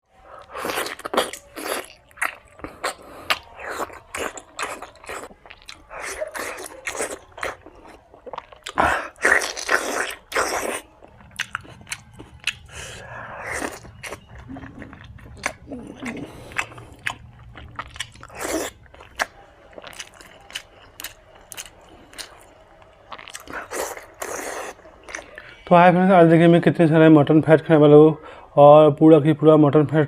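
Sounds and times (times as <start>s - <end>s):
person chewing food: 0.2s - 25.6s.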